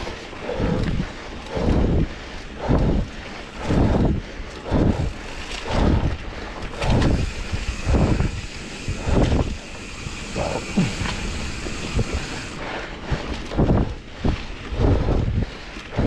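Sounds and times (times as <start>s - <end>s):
air buffeting microphone: 0.0s - 16.0s.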